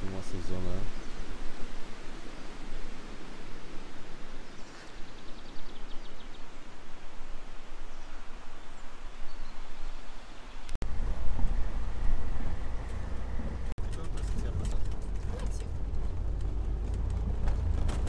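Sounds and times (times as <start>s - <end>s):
steady outdoor noise: 0.0s - 18.0s.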